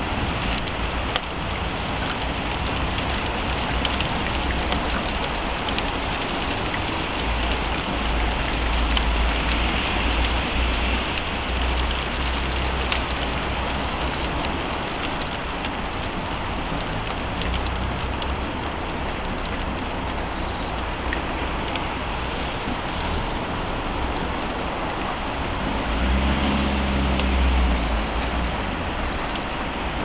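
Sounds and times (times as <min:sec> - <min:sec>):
heavy rain pouring: 0:00.0 - 0:30.0
raindrops ticking close by: 0:00.0 - 0:30.0.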